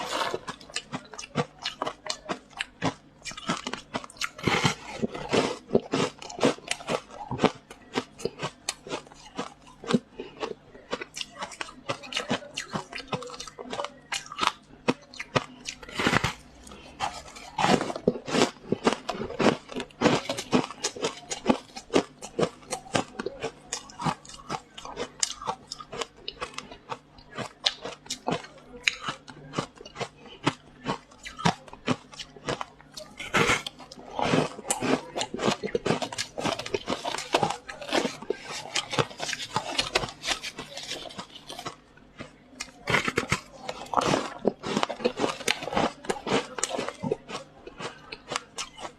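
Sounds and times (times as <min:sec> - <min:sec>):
ice crunching being chewed: 0:00.0 - 0:48.9.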